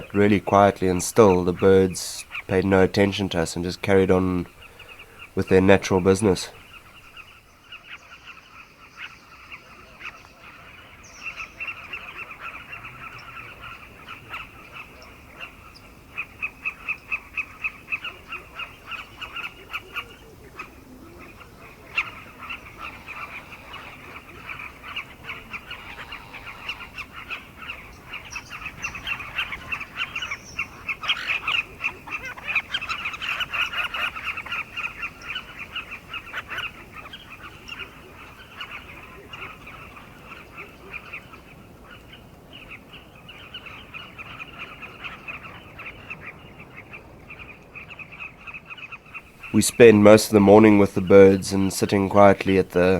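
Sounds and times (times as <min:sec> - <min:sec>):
bird colony chattering: 0:00.0 - 0:52.9.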